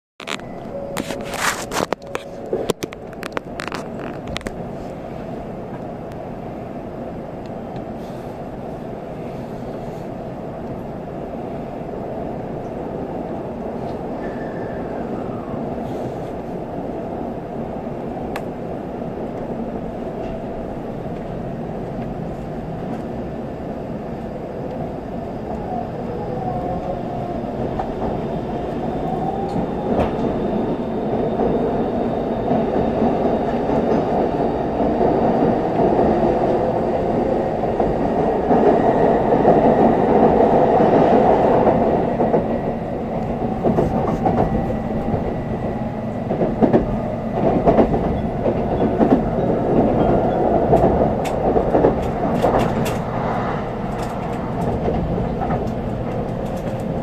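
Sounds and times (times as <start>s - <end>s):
train wheels rumbling on rail: 0.2s - 57.0s.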